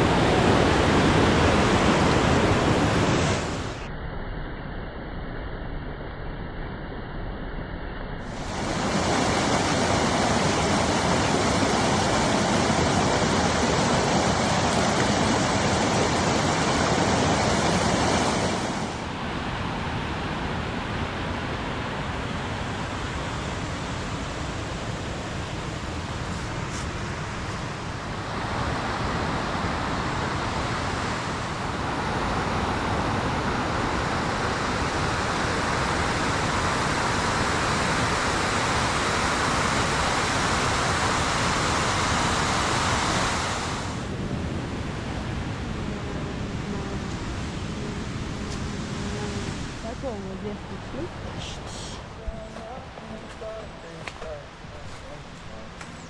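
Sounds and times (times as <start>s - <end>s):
rushing water: 0.0s - 3.9s, 8.3s - 56.0s.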